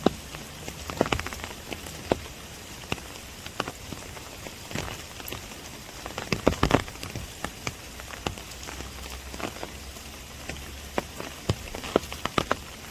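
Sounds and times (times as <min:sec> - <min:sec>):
rain hissing: 0:00.0 - 0:12.9
raindrops tapping on umbrella: 0:00.0 - 0:12.9.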